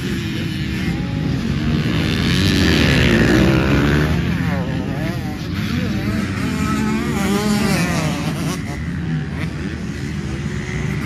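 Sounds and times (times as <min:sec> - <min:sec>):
dirt bikes revving past: 0:00.0 - 0:11.0.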